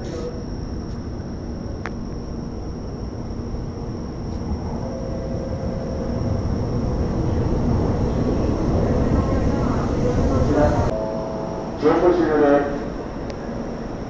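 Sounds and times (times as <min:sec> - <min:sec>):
faint steady hum: 0:00.0 - 0:14.0
train rumbling past: 0:02.5 - 0:14.0.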